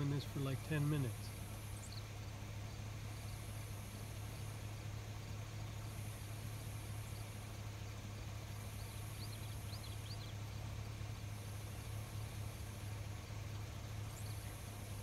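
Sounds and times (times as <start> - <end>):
insects trilling: 0.0 - 15.0
steady low hum: 0.0 - 15.0.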